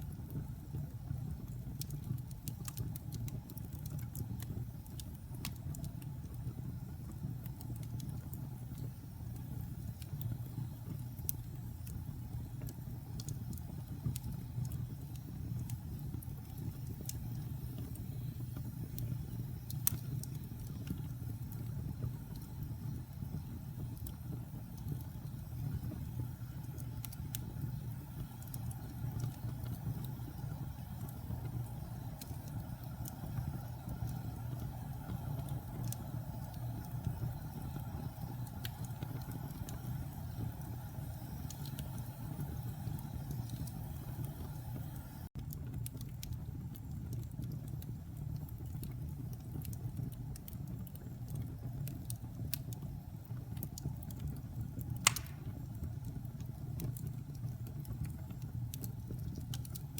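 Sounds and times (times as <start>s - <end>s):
fire crackling: 0.0s - 59.9s
fire popping: 0.0s - 59.9s
wood fire rumbling: 0.0s - 59.9s.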